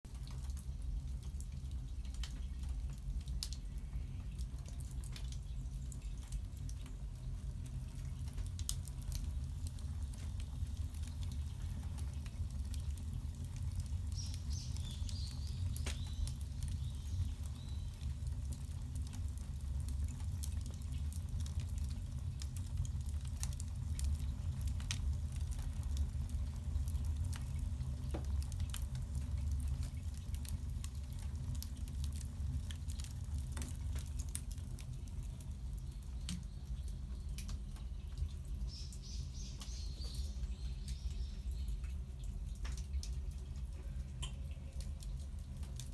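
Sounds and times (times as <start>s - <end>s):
firewood crackling and popping: 0.1s - 45.9s
low fire rumble: 0.1s - 45.9s.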